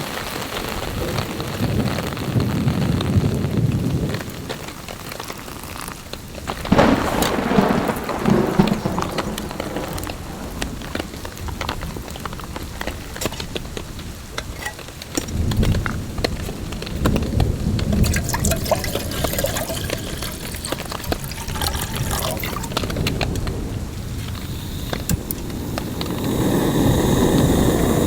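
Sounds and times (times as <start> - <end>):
heavy rain on a tarp: 0.0 - 28.0
thunder rumbling: 0.6 - 5.6, 6.2 - 28.0.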